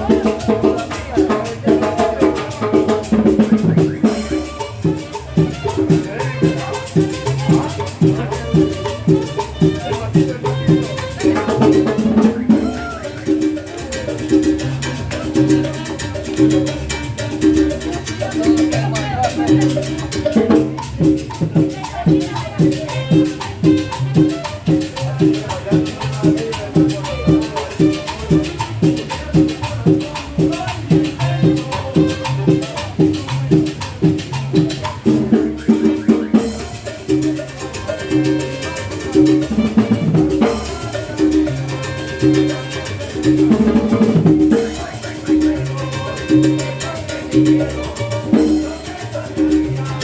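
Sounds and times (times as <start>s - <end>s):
salsa dance music with drums: 0.0s - 50.0s.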